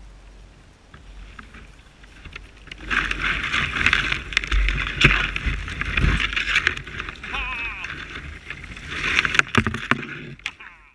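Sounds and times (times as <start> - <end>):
sharp cracks of twigs: 0.8 - 10.9
branches scraping kayak hull: 1.0 - 10.9.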